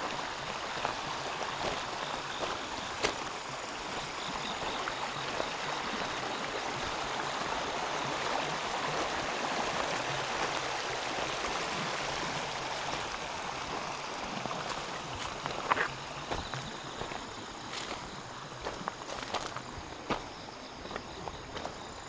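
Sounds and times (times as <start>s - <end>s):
river water rushing: 0.0s - 19.8s.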